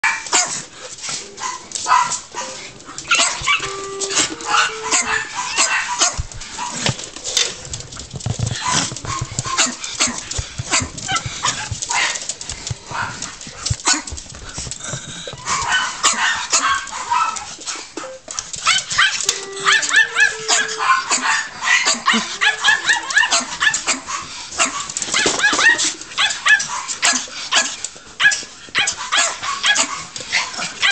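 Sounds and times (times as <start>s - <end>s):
dogs barking sharply: 0.0s - 0.7s, 1.3s - 7.0s, 8.4s - 14.2s, 15.4s - 30.9s.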